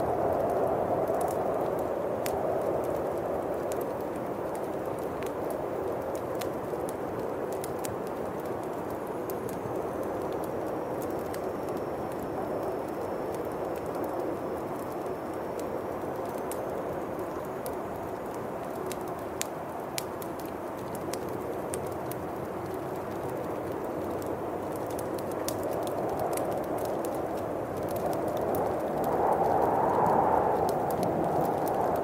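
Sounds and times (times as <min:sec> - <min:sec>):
bonfire crackling and popping: 0:00.0 - 0:32.0
howling wind: 0:00.0 - 0:32.0.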